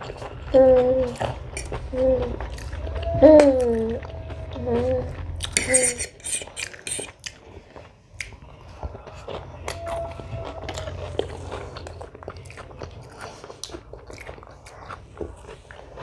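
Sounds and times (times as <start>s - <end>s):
person chewing noodles: 0.0s - 16.0s.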